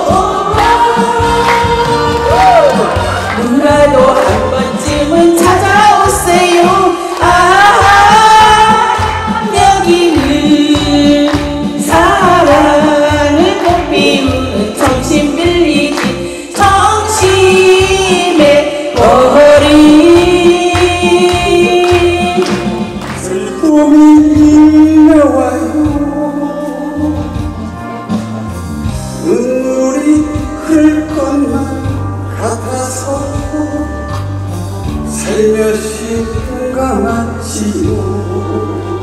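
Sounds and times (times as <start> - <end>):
two women singing a duet: 0.0 - 27.7, 35.1 - 39.0
instrumental accompaniment with beat: 0.0 - 39.0.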